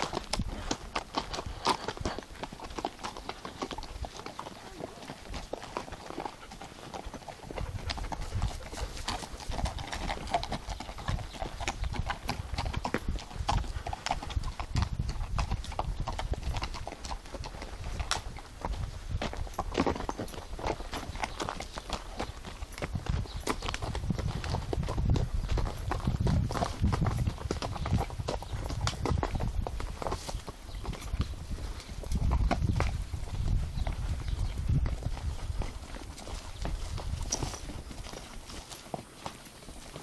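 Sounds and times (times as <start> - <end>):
horse hooves clopping: 0.0 - 40.0.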